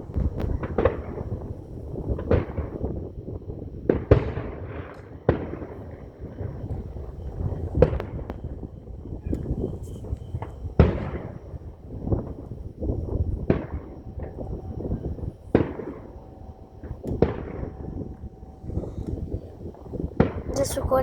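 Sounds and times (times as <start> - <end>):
small fireworks pops and rumbling: 0.0 - 21.0.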